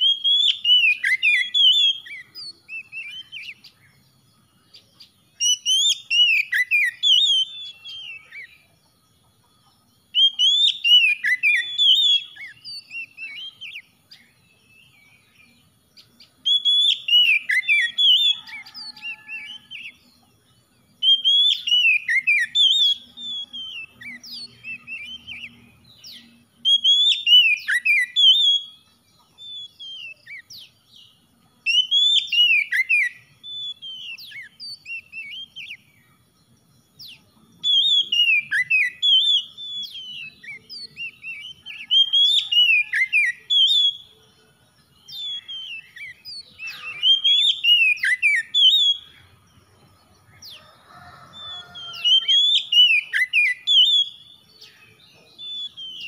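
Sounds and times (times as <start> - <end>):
bird singing whistles: 0.0 - 36.2, 36.8 - 44.2, 44.9 - 49.4, 51.3 - 56.0.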